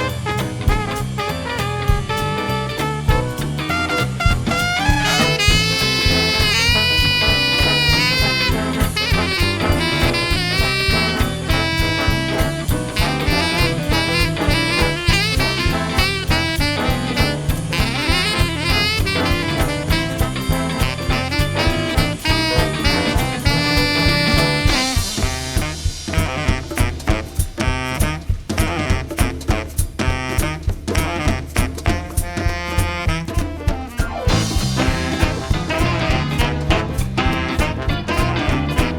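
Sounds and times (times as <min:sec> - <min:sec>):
big band swing music: 0:00.0 - 0:38.9.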